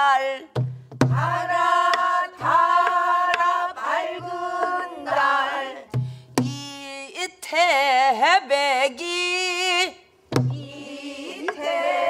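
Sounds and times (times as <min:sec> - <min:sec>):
voices singing folk song: 0:00.0 - 0:12.0.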